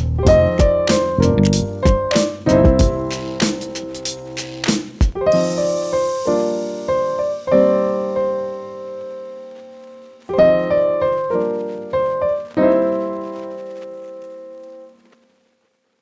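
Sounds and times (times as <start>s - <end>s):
piano chords: 0.0s - 15.1s.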